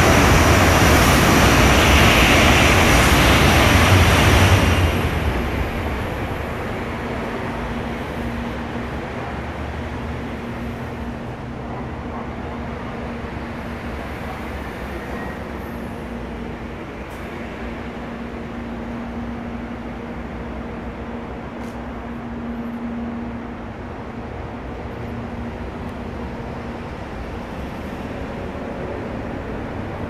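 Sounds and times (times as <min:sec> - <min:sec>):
passing train: 0:00.0 - 0:30.0.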